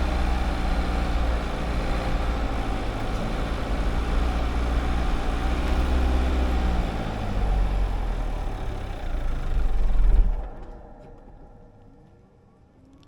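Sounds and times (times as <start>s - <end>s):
diesel engine running: 0.0s - 11.4s.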